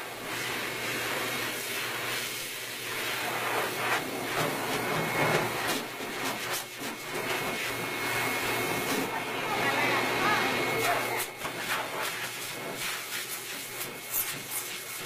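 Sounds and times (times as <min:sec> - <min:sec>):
pet dryer blowing air: 0:00.0 - 0:15.0.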